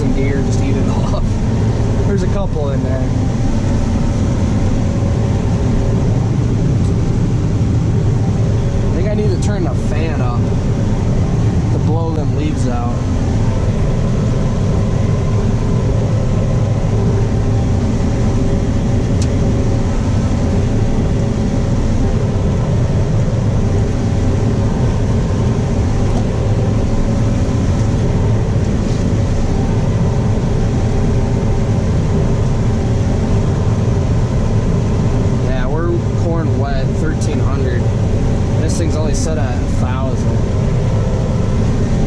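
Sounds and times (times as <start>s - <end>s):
combine harvester droning: 0.0s - 42.0s.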